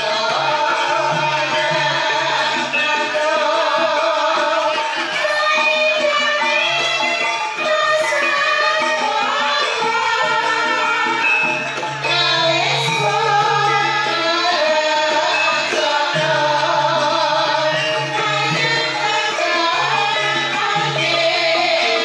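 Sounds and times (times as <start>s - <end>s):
hand drum: 0.0s - 22.0s
metallophones and gongs ringing: 0.0s - 22.0s.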